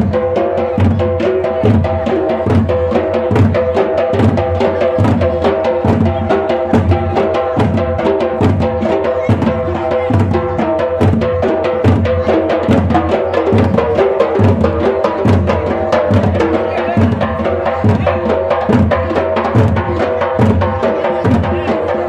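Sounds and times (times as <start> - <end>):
barrel drums beaten fast: 0.0 - 22.0.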